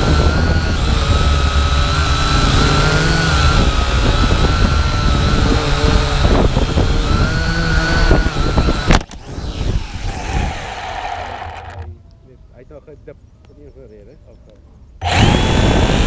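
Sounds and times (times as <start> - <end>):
drone propellers whining: 0.0 - 12.0, 15.0 - 16.0.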